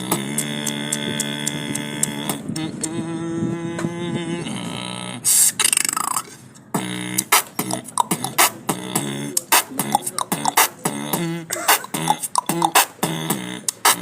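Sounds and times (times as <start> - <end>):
boy beatboxing: 0.0 - 14.0.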